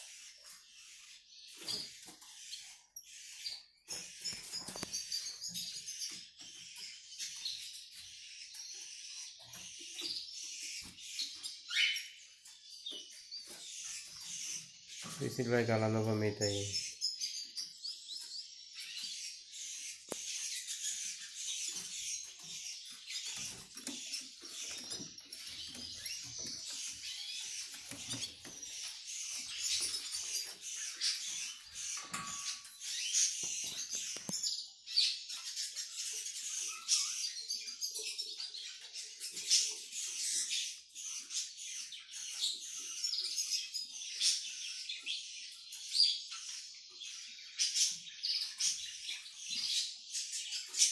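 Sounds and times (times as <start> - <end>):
finches twittering and chirping: 0.0 - 50.9.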